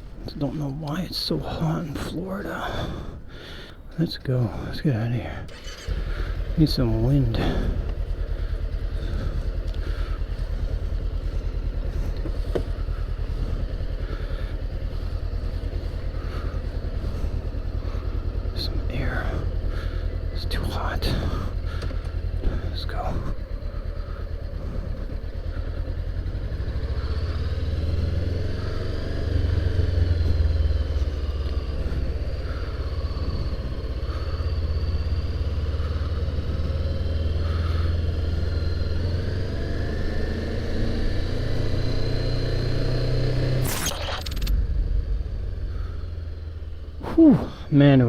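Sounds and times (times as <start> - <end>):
motorcycle engine riding off: 5.5 - 48.0.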